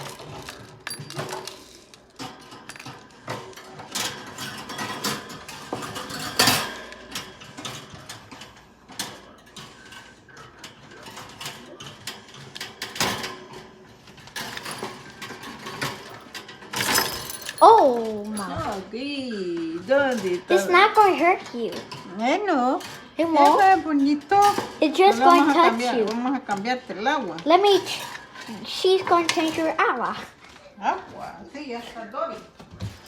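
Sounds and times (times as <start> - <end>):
bird cage rattling and knocking: 0.0 - 18.9, 19.8 - 29.8.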